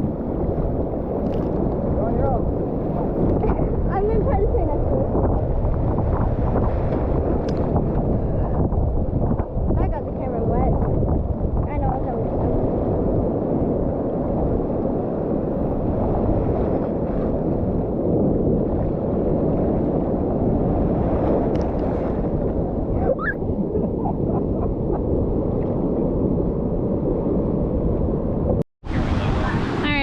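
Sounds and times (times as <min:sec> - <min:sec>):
surf roaring: 0:00.0 - 0:30.0
wind on microphone: 0:00.0 - 0:30.0.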